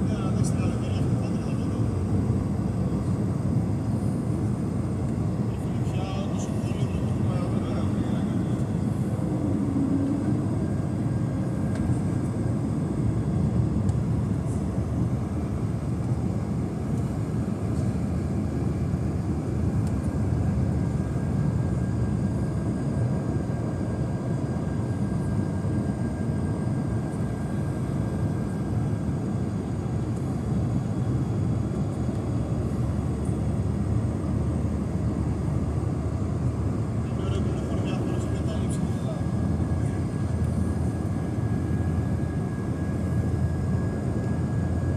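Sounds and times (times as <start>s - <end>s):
airliner engines droning: 0.0s - 44.9s
faint steady whine: 0.0s - 44.9s.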